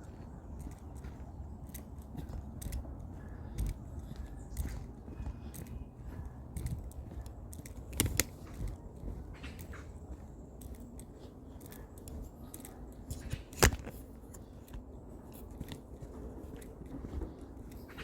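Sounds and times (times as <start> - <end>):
footsteps and rustling: 0.0 - 18.0.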